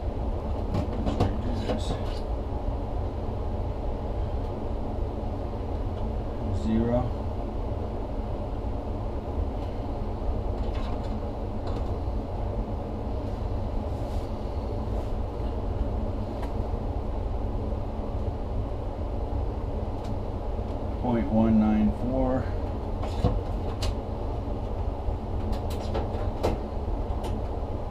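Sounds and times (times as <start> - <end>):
furnace blower air rush: 0.0 - 27.9.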